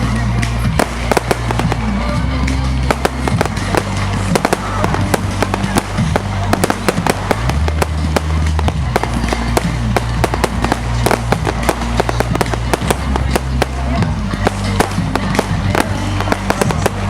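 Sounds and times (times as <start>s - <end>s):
fireworks bangs and crackles: 0.0s - 17.0s
music with low held notes: 0.0s - 17.0s.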